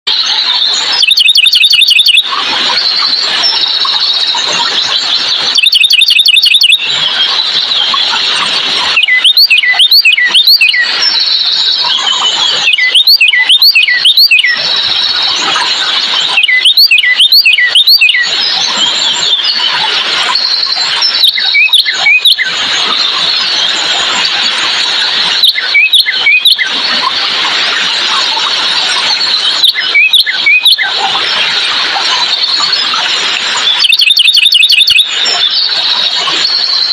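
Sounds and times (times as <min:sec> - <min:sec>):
sharp bird chirps: 0:00.1 - 0:24.4, 0:25.1 - 0:27.1, 0:29.0 - 0:31.5, 0:32.2 - 0:36.9
high-pitched bird chorus: 0:00.1 - 0:27.2, 0:27.8 - 0:36.9
bird trill: 0:00.2 - 0:08.2, 0:08.8 - 0:23.7, 0:25.3 - 0:27.1, 0:29.1 - 0:31.4, 0:32.2 - 0:36.9.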